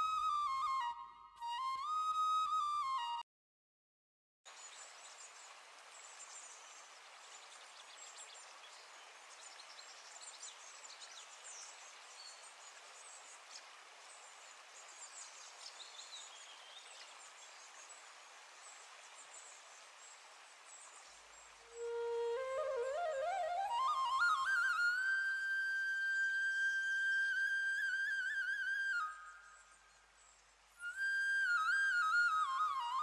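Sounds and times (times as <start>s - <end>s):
steady hiss: 4.5s - 33.0s.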